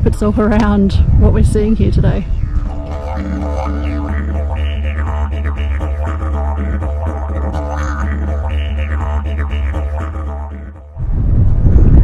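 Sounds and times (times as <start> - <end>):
didgeridoo drone: 1.0 - 11.3.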